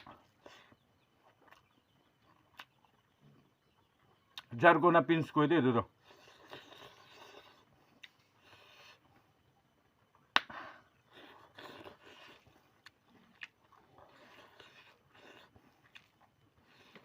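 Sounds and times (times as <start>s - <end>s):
person chewing food: 0.0s - 4.5s, 5.9s - 17.0s.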